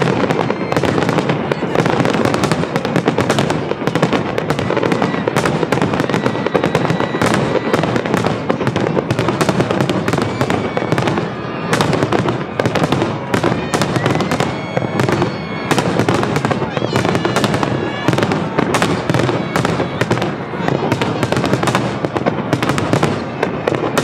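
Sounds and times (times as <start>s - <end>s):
faint firework whistles: 0.0s - 24.0s
fireworks bursting and crackling: 0.0s - 24.0s.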